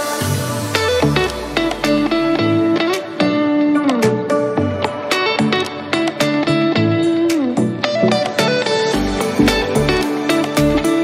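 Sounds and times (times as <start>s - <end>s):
plucked guitar music with beat: 0.0s - 11.0s.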